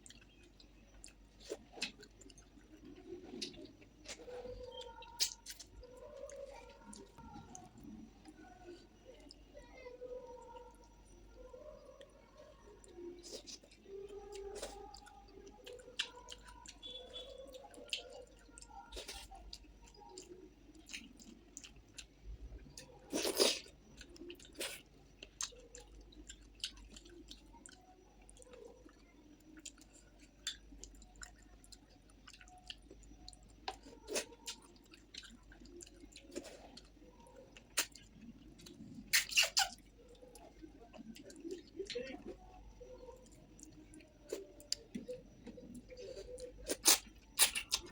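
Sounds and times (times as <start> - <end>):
person chewing with wet mouth sounds: 0.0 - 47.9.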